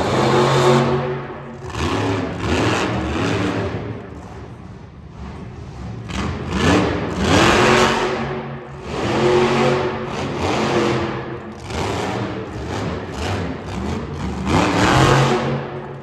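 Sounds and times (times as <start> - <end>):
monster truck engine revving: 0.0 - 16.0.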